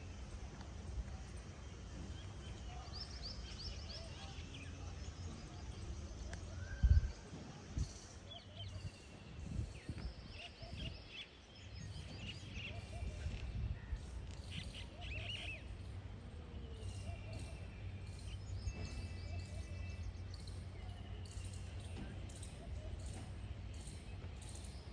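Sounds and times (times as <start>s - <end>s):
birds chirping: 0.0s - 24.9s
locomotive engine hum: 0.0s - 24.9s.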